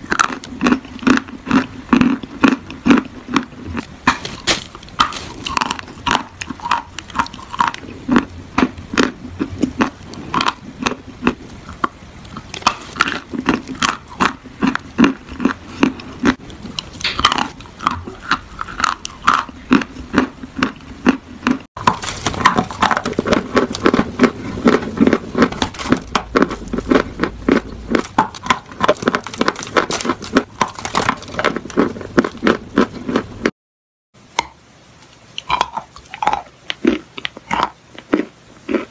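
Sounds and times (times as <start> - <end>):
crunching and chewing chalk: 0.0 - 33.6, 35.4 - 38.9.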